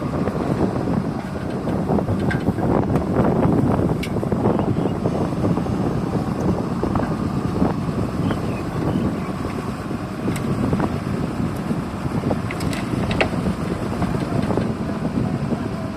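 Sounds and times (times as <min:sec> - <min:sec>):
excavator diesel engine rumbling: 0:00.0 - 0:15.9
wind buffeting microphone: 0:00.0 - 0:15.9.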